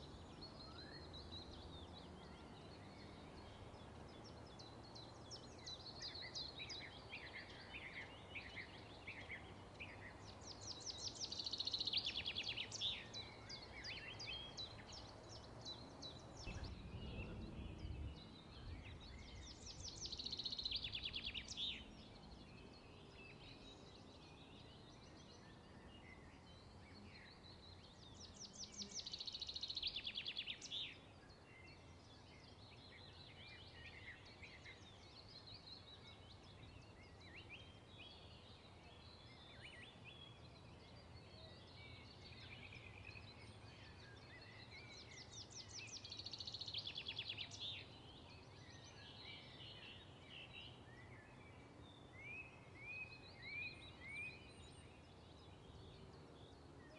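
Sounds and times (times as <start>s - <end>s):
birds chirping and trilling: 0.0s - 56.9s.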